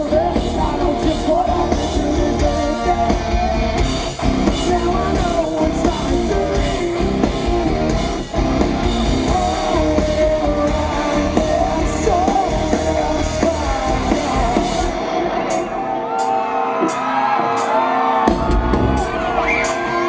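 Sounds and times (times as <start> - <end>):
crowd shouting and whooping: 0.0 - 20.0
live rock band with singer: 0.0 - 20.0.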